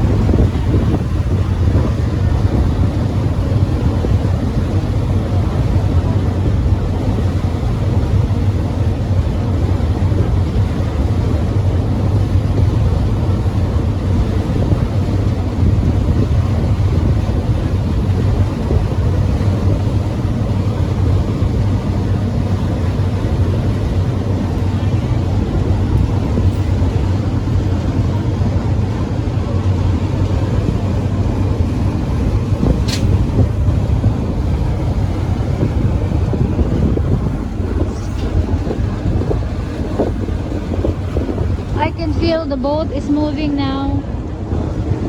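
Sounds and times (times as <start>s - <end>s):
ferry engines droning: 0.0s - 45.0s.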